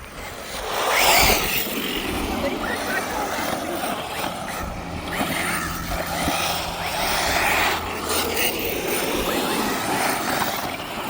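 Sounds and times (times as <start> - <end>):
electric motor whine: 0.0 - 11.0.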